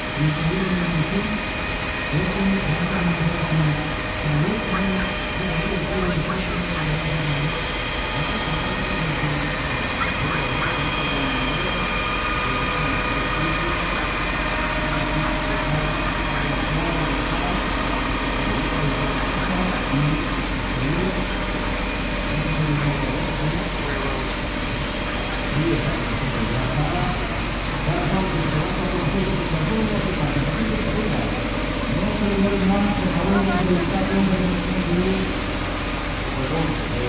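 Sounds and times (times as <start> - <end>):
fountain water splashing: 0.0 - 37.0.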